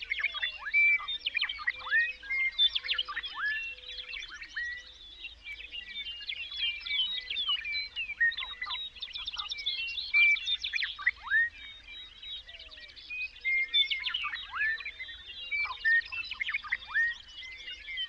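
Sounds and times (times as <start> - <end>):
chorus of songbirds singing: 0.0 - 18.0.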